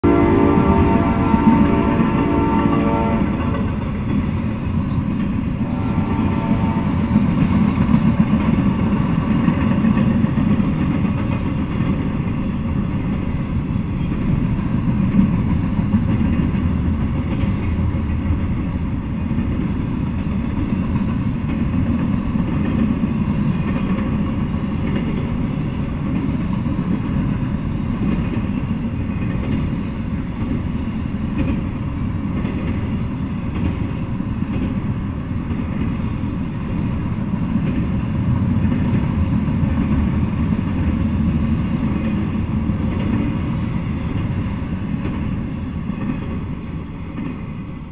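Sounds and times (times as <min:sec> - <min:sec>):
freight train wheels rumbling on rail: 0:00.0 - 0:47.9.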